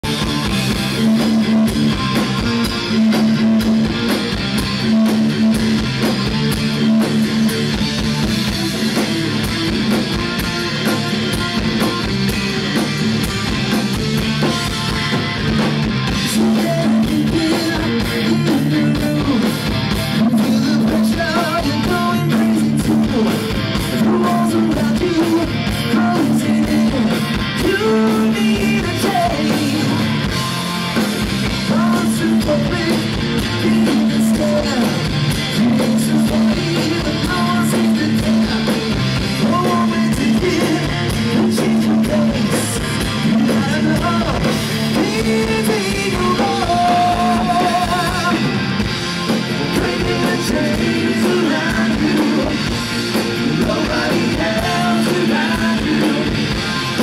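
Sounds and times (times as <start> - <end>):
hard rock band playing: 0.0 - 57.0.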